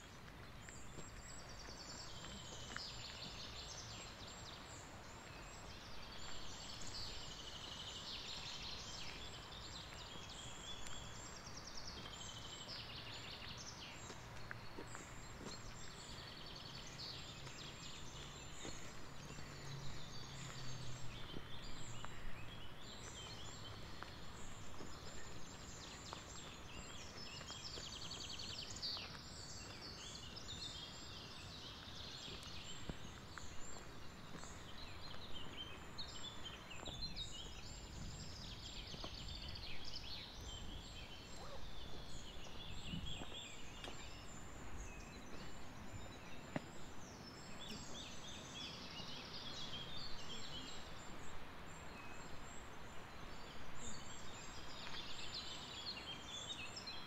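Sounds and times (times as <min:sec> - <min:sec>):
songbirds singing: 0:00.0 - 0:57.0
steady outdoor hiss: 0:00.0 - 0:57.0.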